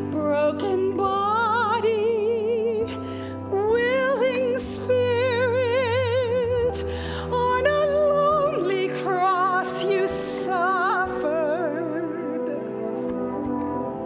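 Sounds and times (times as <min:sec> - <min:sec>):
woman singing with vibrato: 0:00.0 - 0:13.0
instrumental accompaniment: 0:00.0 - 0:14.0.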